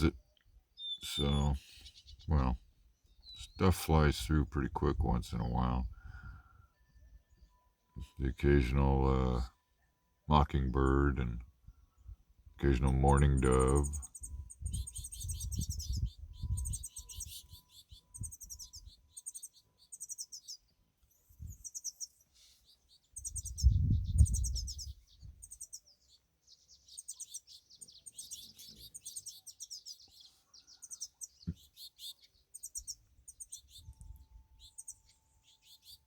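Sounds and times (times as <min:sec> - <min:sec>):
songbirds chirping and twittering: 0:00.0 - 0:36.0.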